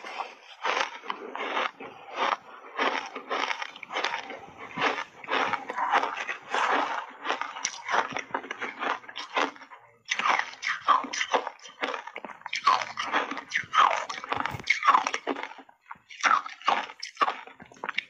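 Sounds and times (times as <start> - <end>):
person crunching ice: 0.0 - 15.6.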